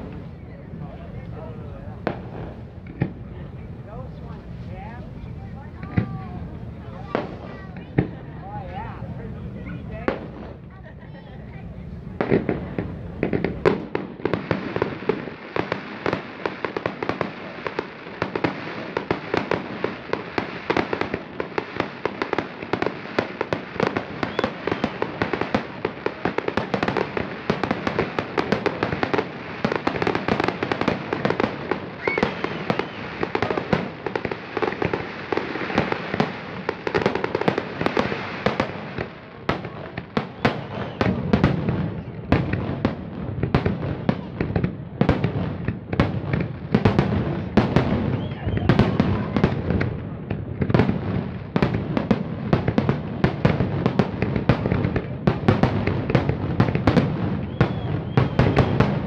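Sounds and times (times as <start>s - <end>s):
fireworks crackling: 0.0s - 59.0s
loud firework bangs: 0.0s - 59.0s.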